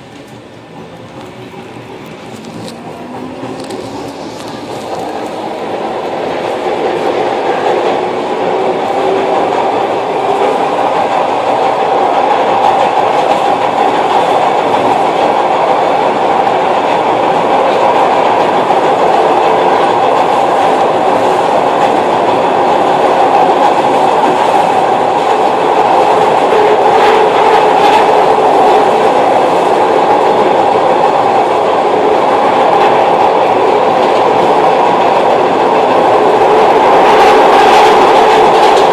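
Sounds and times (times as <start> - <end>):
subway train rumbling on tracks: 0.0 - 38.9.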